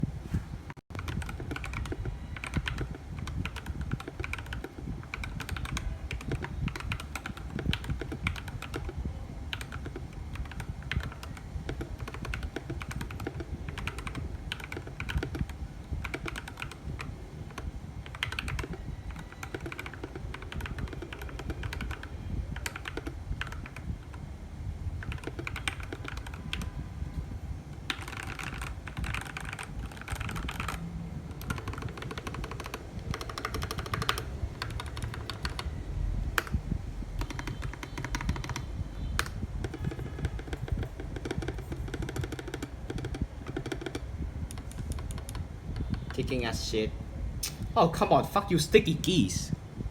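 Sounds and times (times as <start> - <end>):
fast typing on mechanical keyboard: 0.9 - 24.2, 25.0 - 26.7, 27.8 - 36.6, 37.2 - 46.4.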